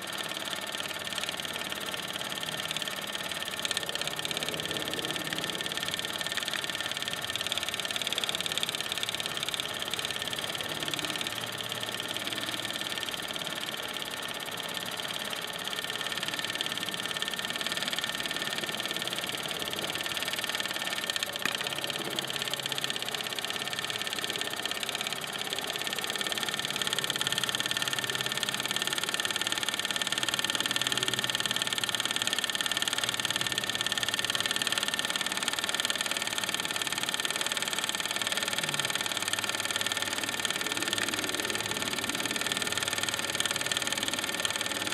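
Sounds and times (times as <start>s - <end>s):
model steam engine running: 0.0s - 44.9s.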